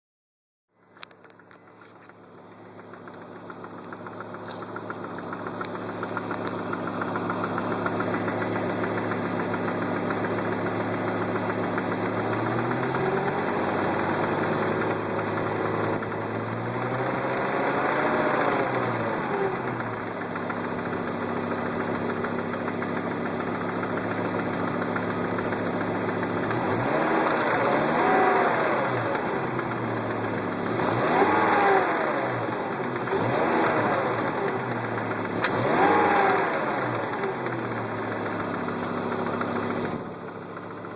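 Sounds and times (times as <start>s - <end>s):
car engine idling and revving: 0.8s - 40.9s
engine knocking: 1.2s - 40.9s.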